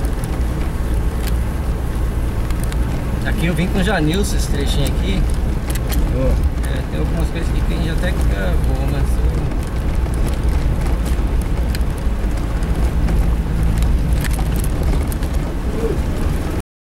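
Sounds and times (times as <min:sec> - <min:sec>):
car engine running at low speed: 0:00.0 - 0:16.6
knocks and rattles on rough road: 0:00.0 - 0:16.6.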